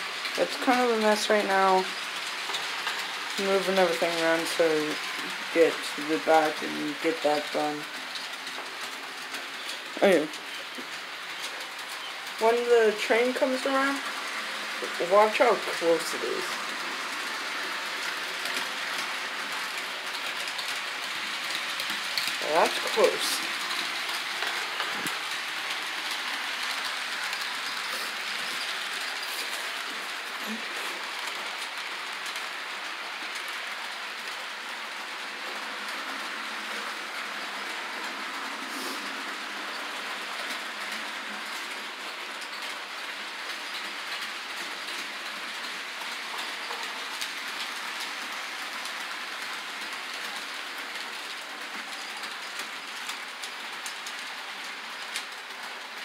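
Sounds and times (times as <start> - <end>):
model train whirring: 0.0 - 56.0
wheels clicking over rail joints: 0.0 - 56.0.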